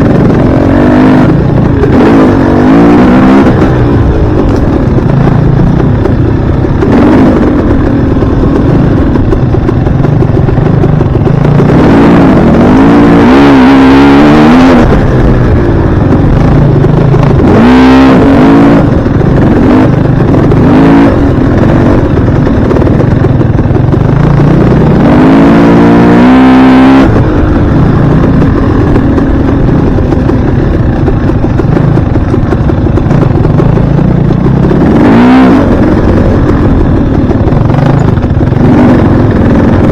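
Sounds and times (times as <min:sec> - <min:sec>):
dirt bike engine revving: 0:00.0 - 0:23.4, 0:24.2 - 0:39.9.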